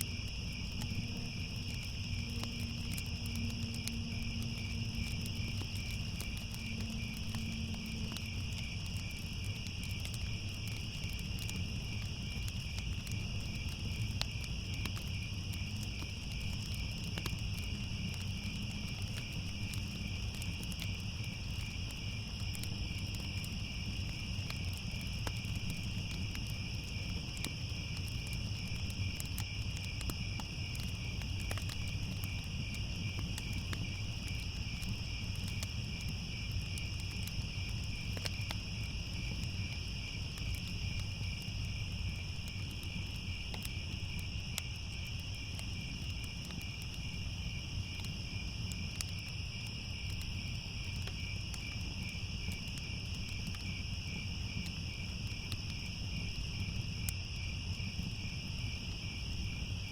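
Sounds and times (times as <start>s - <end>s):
crickets chirping: 0.0s - 59.9s
fire crackling: 0.0s - 59.9s.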